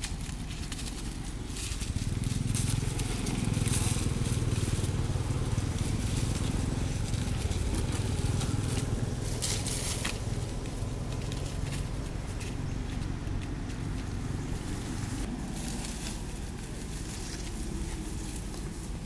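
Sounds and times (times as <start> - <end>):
dry leaves crackling: 0.0 - 19.0
steady low rumble: 0.0 - 19.0.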